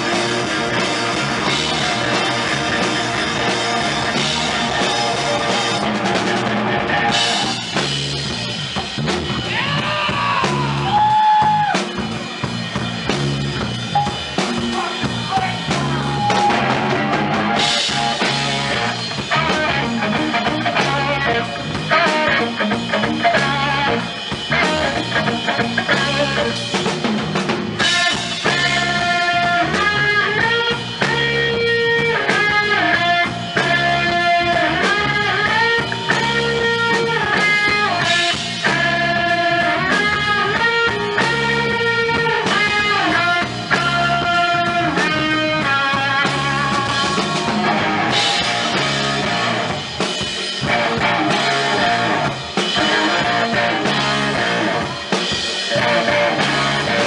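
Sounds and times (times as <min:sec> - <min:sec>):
drum kit: 0:00.0 - 0:57.0
electric guitar lead: 0:00.0 - 0:57.0.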